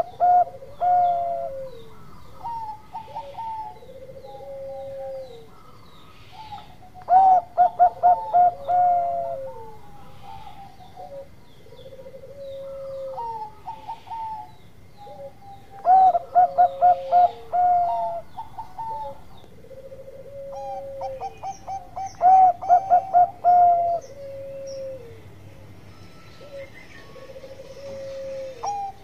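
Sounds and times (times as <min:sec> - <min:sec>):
dove cooing: 0:00.0 - 0:25.5, 0:26.1 - 0:29.0.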